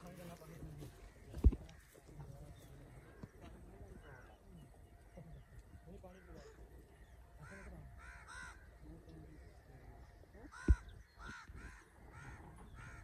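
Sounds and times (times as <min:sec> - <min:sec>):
crows cawing: 0:00.7 - 0:13.0.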